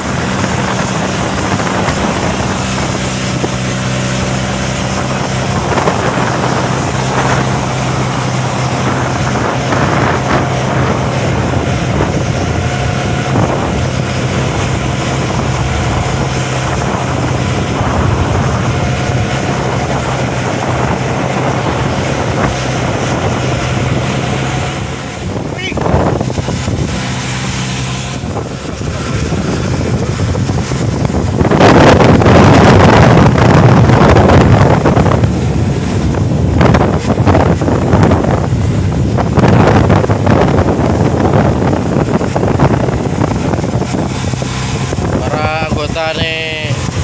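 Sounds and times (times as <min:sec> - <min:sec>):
boat engine droning: 0:00.0 - 0:47.0
rushing water: 0:00.0 - 0:47.0
wave splashes: 0:00.0 - 0:47.0
wind buffeting microphone: 0:00.0 - 0:47.0.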